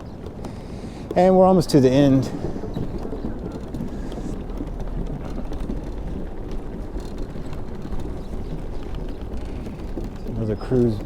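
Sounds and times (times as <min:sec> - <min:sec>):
light clicks and rattles: 0:00.0 - 0:11.0
wind buffeting microphone: 0:00.0 - 0:11.0.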